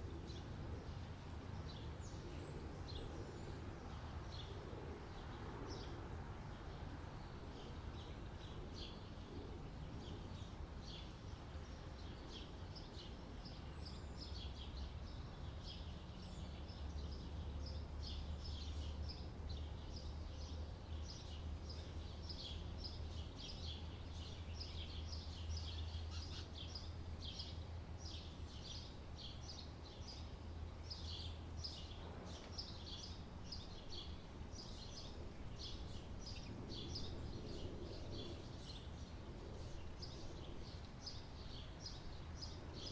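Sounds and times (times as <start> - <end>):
small birds chirping: 0.1 - 42.9.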